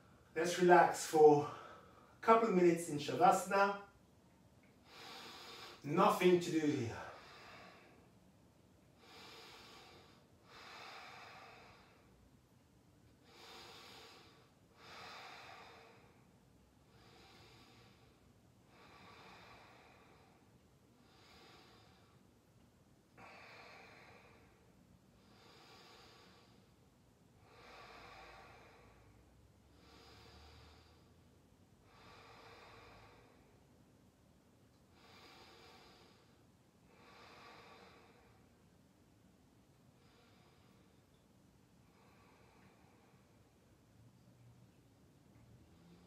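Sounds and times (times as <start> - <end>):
slow soft breathing: 1.5 - 2.2, 4.6 - 5.8, 7.0 - 12.4, 13.1 - 34.1, 34.7 - 44.5, 45.3 - 46.0.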